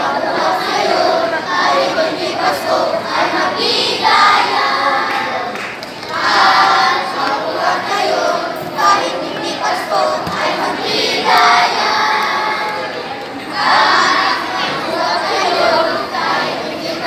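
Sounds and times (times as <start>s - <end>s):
children singing a carol: 0.0s - 17.0s.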